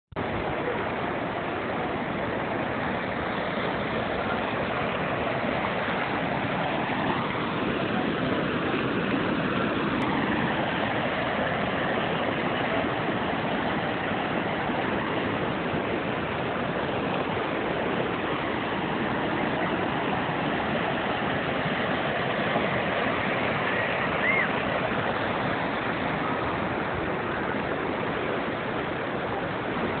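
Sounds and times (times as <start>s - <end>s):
floodwater rushing over ground: 0.1s - 30.0s.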